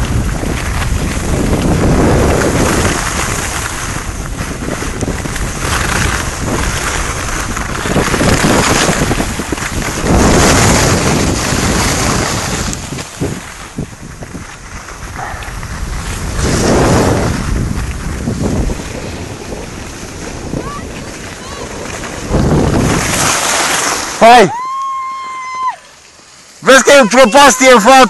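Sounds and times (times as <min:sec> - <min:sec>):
wind rushing over microphone: 0:00.0 - 0:25.8
skis running over snow: 0:00.0 - 0:28.0.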